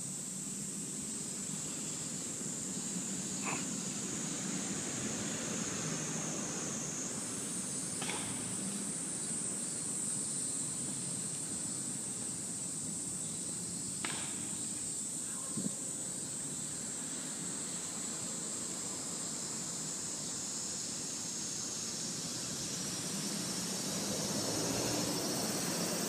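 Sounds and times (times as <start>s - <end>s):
background hum: 0.0s - 24.4s
high steady hiss: 0.0s - 26.0s.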